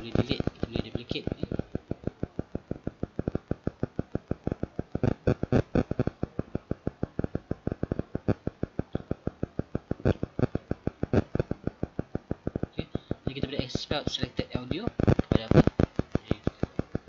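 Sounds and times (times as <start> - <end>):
rapid regular ticking: 0.0 - 17.0.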